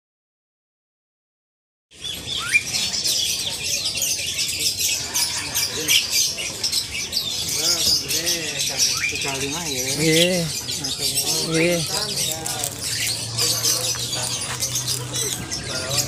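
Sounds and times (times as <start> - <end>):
songbirds chirping and trilling: 1.9 - 16.0.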